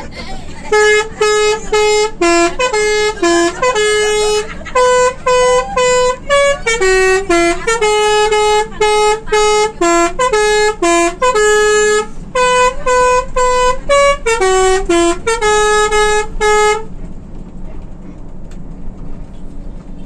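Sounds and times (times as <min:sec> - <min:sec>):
multi-tone bus horn tune: 0:00.0 - 0:17.0.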